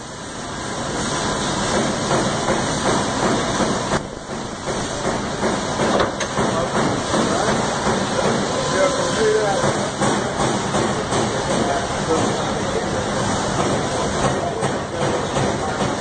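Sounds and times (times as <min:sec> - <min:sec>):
idle machine hissing: 0:00.0 - 0:16.0.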